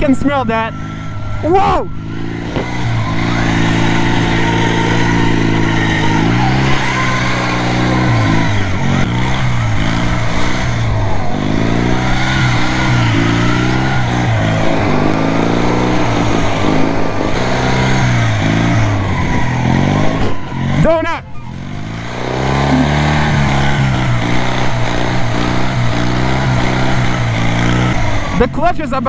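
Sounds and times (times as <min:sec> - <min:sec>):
lawn mower engine revving: 0:00.0 - 0:28.7.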